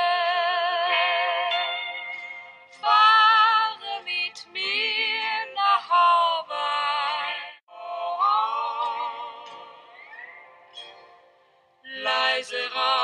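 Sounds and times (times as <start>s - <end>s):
song with high singing voice: 0.0s - 11.2s, 11.8s - 13.0s.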